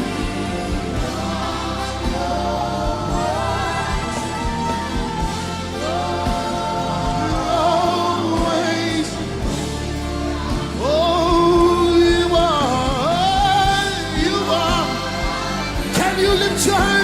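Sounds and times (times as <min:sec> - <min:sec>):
keyboard chords: 0:00.0 - 0:17.0
steady bass: 0:00.0 - 0:17.0.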